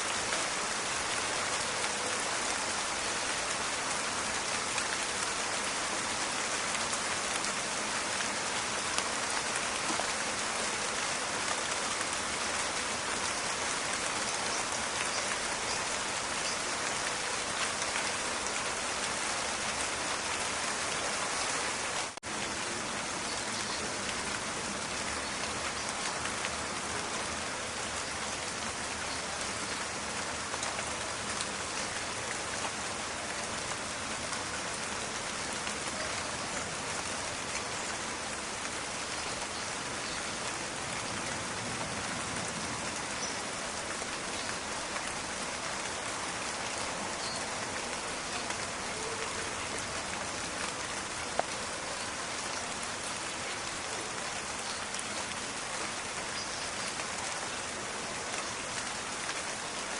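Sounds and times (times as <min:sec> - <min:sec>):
rain pattering in a forest: 0:00.0 - 0:59.9.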